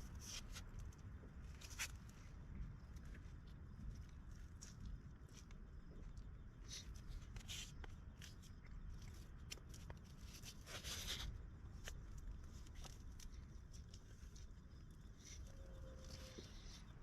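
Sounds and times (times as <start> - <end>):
faint rustles and clicks: 0.0 - 17.0
low steady rumble: 0.0 - 17.0.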